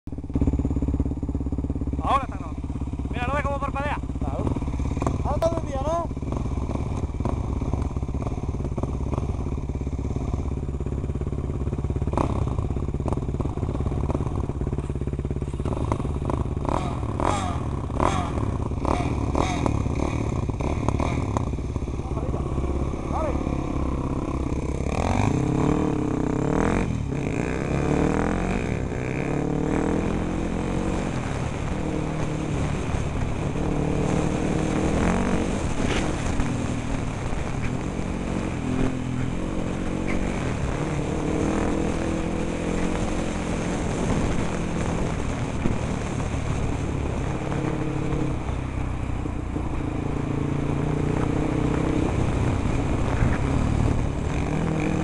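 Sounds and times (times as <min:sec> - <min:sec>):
off-road vehicle engine revving: 0:00.2 - 0:55.0.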